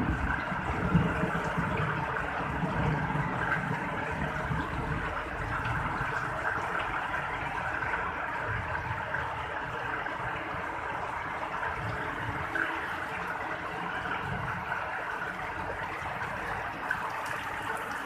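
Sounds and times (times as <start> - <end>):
water running over road: 0.0 - 18.0.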